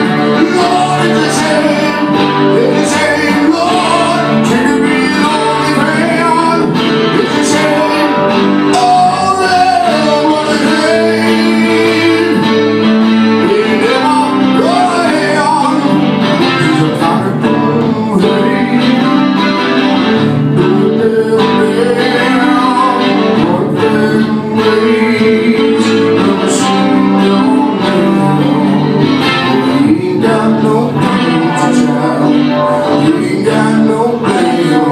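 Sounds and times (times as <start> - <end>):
acoustic guitars playing: 0.0 - 34.9
man singing: 0.0 - 34.9.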